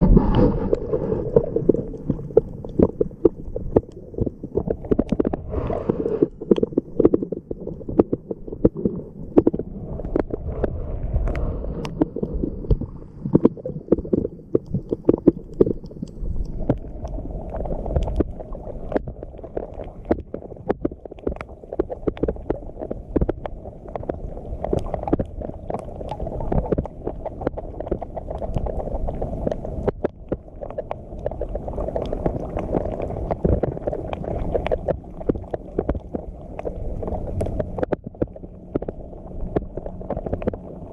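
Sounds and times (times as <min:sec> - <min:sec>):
seawater sloshing and surging: 0:00.0 - 0:40.9.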